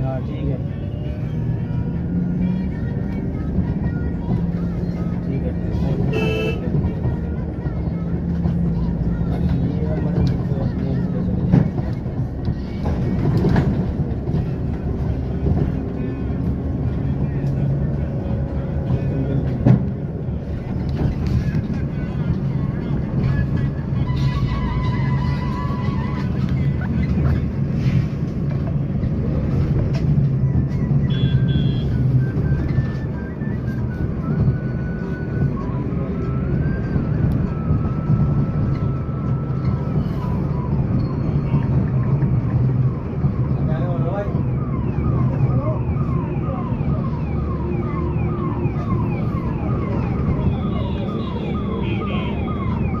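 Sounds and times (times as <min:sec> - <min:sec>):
vehicle rumble: 0:00.0 - 0:53.0.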